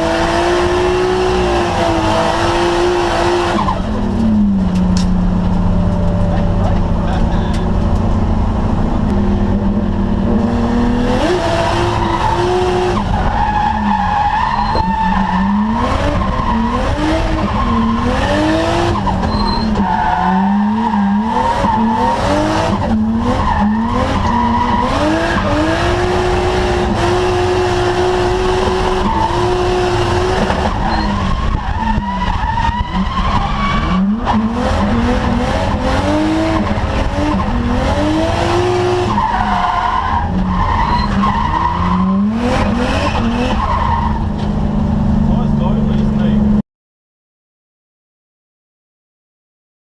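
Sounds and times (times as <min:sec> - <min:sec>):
car engine revving: 0:00.0 - 0:46.6.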